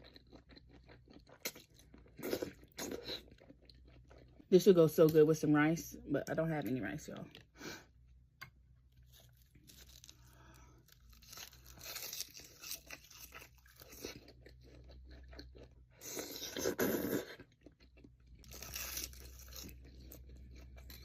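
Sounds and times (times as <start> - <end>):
person chewing food: 0.0 - 4.5, 8.4 - 21.0.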